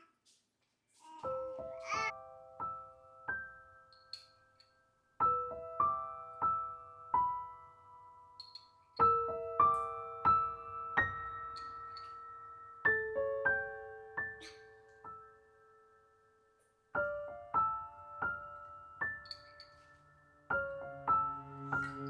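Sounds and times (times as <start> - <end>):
slow piano notes: 1.0 - 22.0.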